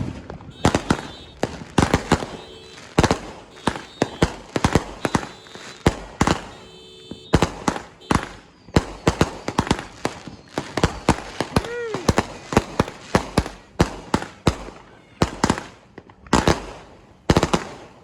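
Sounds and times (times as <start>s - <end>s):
fireworks banging: 0.0s - 18.0s.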